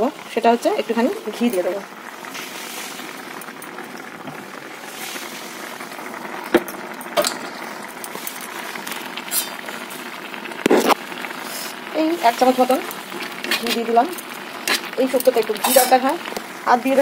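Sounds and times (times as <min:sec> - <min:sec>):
curry simmering and bubbling: 0:00.0 - 0:17.0.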